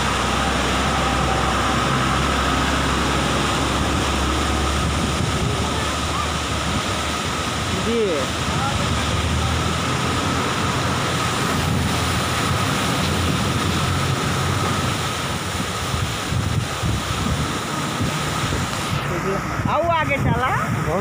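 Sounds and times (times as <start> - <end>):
turbulent river water rushing: 0.0 - 21.0
wind buffeting microphone: 0.0 - 21.0.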